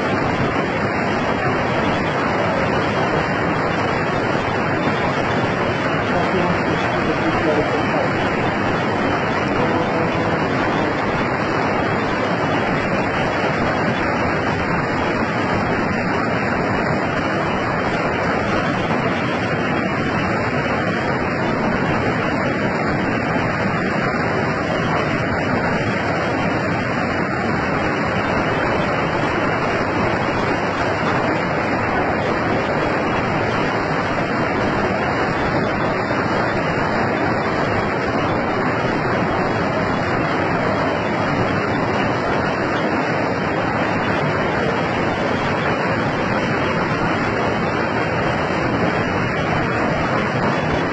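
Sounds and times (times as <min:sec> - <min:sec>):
floodwater rushing: 0:00.0 - 0:50.9.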